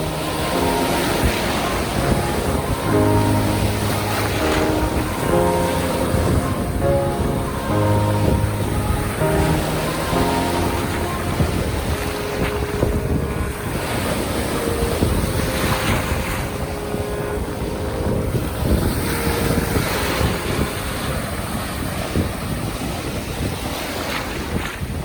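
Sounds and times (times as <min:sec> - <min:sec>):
sea waves washing onto shore: 0:00.0 - 0:25.0
wind buffeting microphone: 0:00.0 - 0:25.0.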